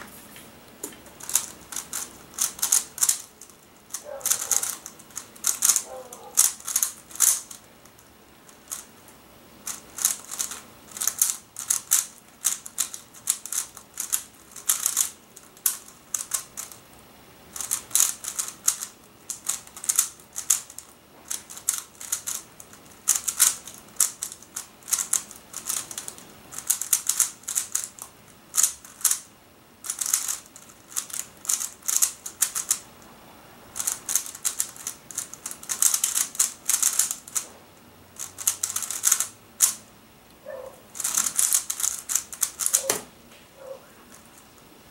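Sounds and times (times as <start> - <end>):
plastic puzzle cube clicking: 1.2 - 8.9, 9.6 - 16.8, 17.5 - 32.8, 33.8 - 37.4, 38.2 - 39.8, 41.0 - 43.0.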